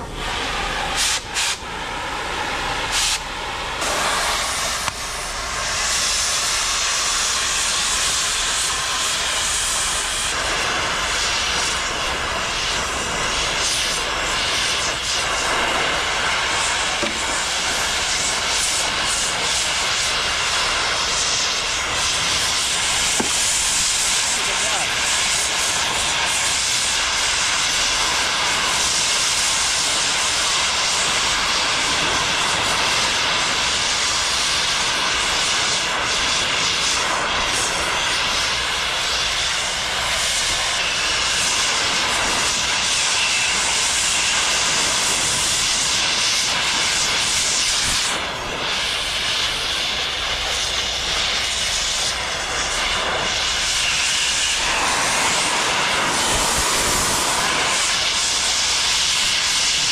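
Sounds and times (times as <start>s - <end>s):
cutting torch hissing: 0.0s - 59.9s.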